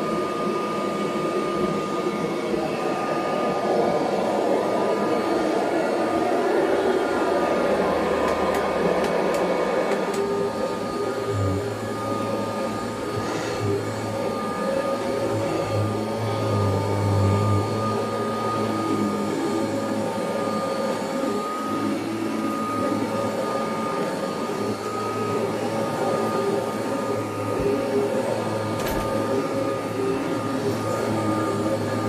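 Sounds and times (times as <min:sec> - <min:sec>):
upright vacuum cleaner running: 0:00.0 - 0:32.0.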